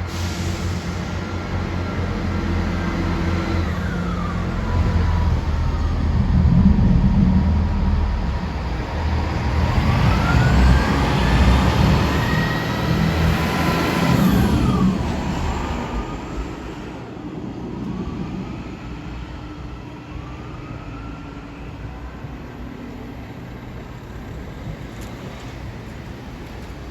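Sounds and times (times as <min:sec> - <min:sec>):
train engine rumble: 0:00.0 - 0:26.9.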